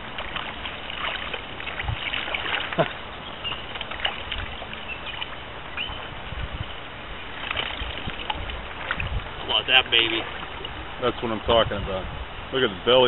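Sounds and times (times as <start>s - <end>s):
small water splashes: 0.0s - 11.9s
river water running and lapping: 0.0s - 13.0s.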